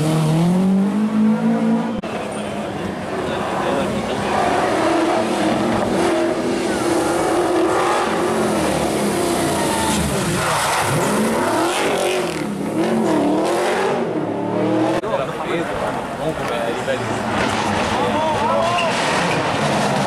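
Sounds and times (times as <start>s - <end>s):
rally car engine revving: 0.0s - 2.3s, 3.1s - 20.0s.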